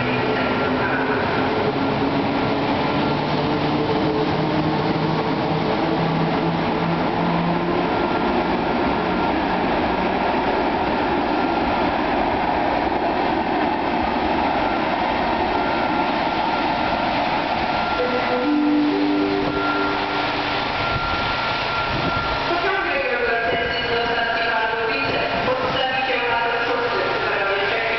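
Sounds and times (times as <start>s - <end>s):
electric locomotive whine: 0.0s - 27.9s
train coaches rolling on rails: 0.0s - 27.9s.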